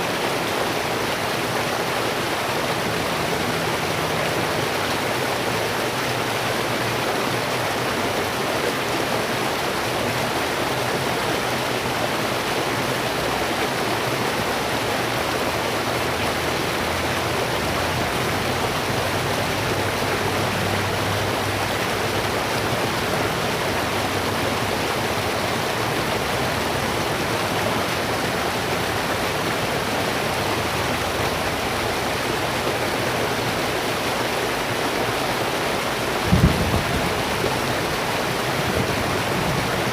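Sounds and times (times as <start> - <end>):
flowing stream water: 0.0 - 39.9.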